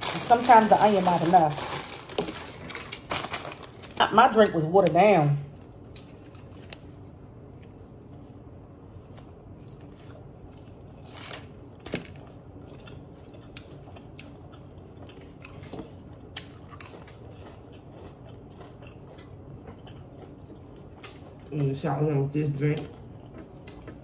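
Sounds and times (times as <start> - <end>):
person chewing crunchy food: 0.0 - 4.0, 5.5 - 21.6, 22.8 - 24.0.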